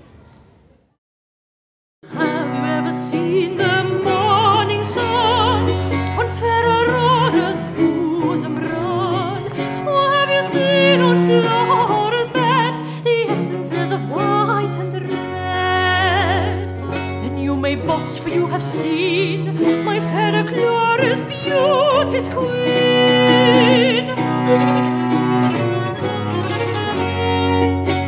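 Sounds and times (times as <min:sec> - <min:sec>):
classical singer with vibrato: 0:02.1 - 0:25.5
low bowed-string notes: 0:02.1 - 0:28.0.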